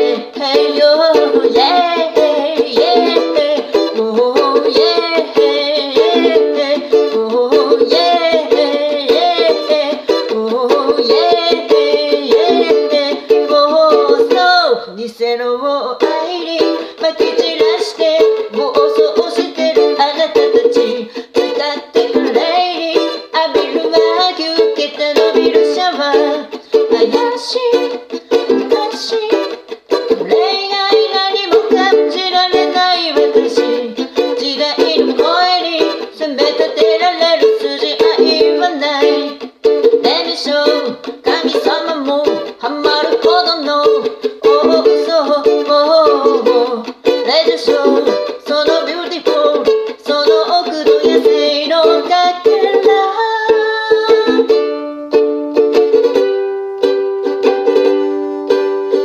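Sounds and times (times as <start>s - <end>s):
ukulele strumming chords: 0.0s - 59.0s.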